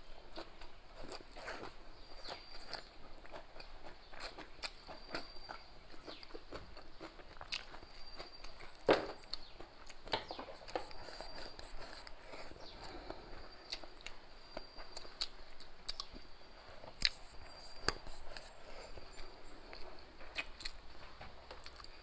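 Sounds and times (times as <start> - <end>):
chewing and mouth smacks: 0.3 - 22.0.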